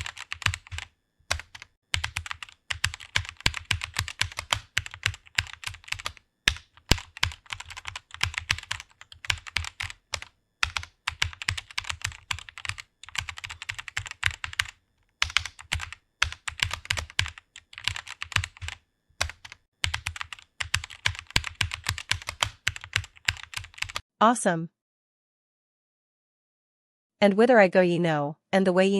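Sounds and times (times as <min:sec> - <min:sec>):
fast typing on keyboard: 0:00.0 - 0:24.0.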